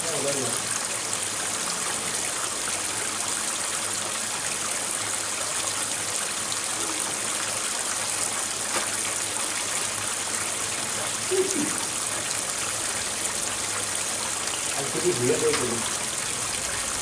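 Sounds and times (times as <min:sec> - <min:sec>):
water pouring into a pond: 0:00.0 - 0:17.0.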